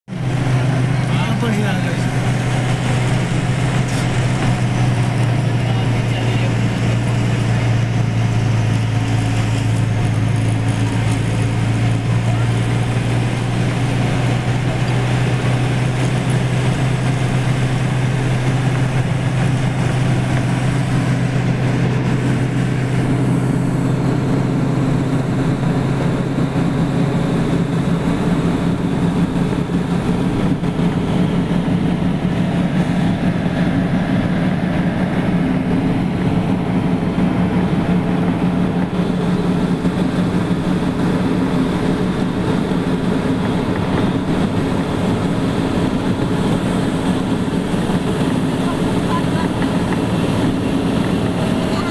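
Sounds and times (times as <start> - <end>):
road and tyre noise: 0.0 - 51.9
car engine hum: 0.1 - 51.9.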